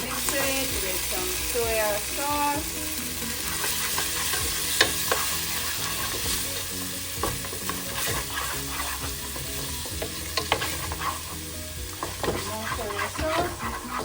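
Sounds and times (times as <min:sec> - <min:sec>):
onions sizzling in a frying pan: 0:00.0 - 0:14.0.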